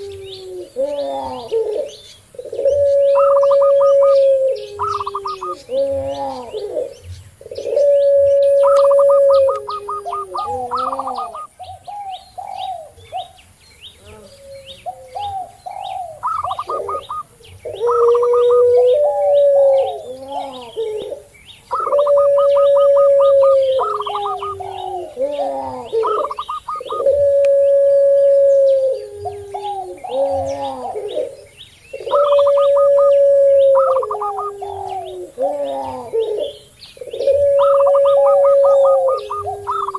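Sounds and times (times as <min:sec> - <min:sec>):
doves cooing: 0:00.0 - 0:39.9
high chirping of small birds: 0:00.0 - 0:39.9.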